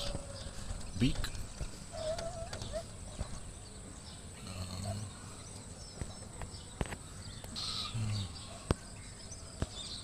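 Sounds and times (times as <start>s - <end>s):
outdoor background noise: 0.0s - 10.0s
small birds chirping: 0.0s - 10.0s.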